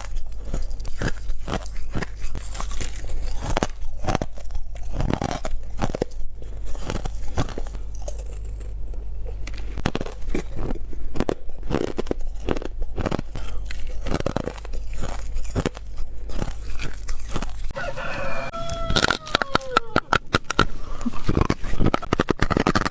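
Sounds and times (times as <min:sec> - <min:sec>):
ice being bitten crunching: 0:00.0 - 0:22.9
steady low hum: 0:00.0 - 0:22.9.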